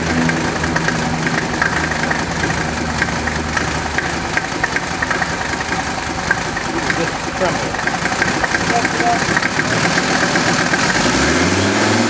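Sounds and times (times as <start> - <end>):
sharp irregular ticks: 0.0 - 11.2
diesel engine idling: 0.0 - 11.6.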